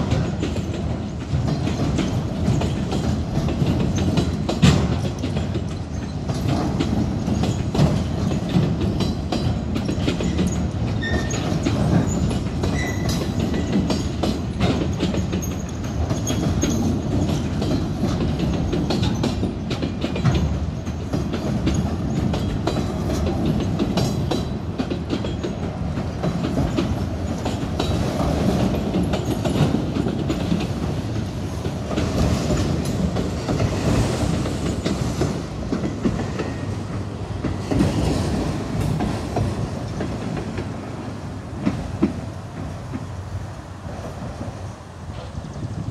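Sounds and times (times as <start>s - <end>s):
train wheels rumbling on rail: 0.0s - 45.9s
wheels clacking over rail joints: 0.0s - 45.9s.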